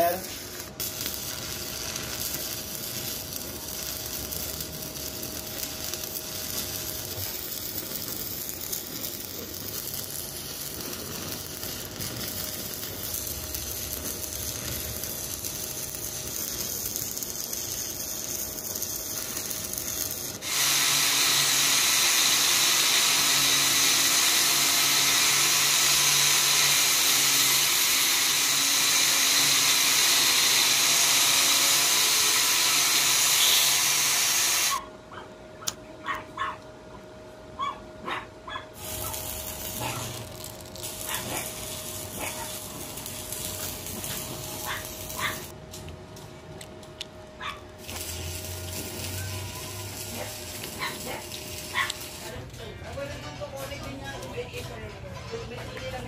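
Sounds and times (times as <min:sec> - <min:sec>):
angle grinder on steel: 0:00.0 - 0:34.8, 0:38.8 - 0:45.5, 0:47.8 - 0:52.4
arc welding crackling: 0:00.0 - 0:34.9, 0:38.1 - 0:56.0.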